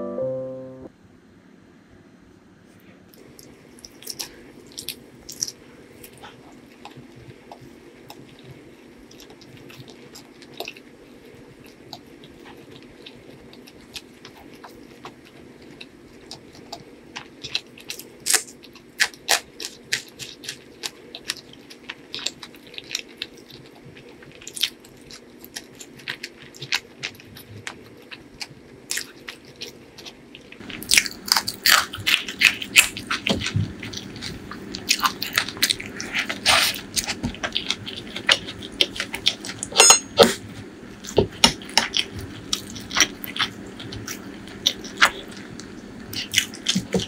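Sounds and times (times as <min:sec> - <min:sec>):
steady low hum: 0:00.0 - 0:47.0
wet crunchy chewing: 0:03.2 - 0:47.0.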